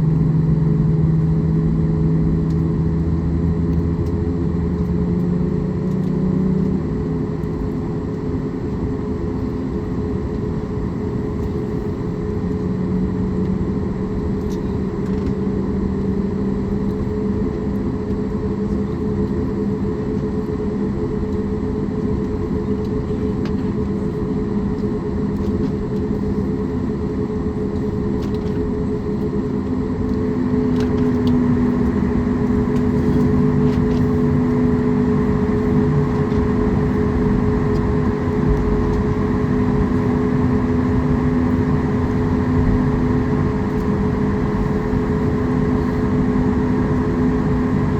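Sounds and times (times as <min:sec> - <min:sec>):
aircraft cabin drone: 0:00.0 - 0:47.9.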